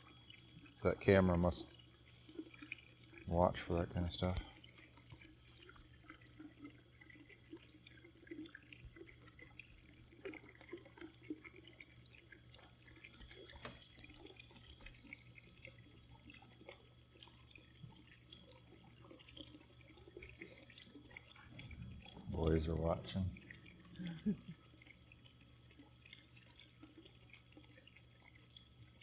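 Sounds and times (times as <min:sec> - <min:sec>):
water trickling and dripping: 0:00.0 - 0:29.0.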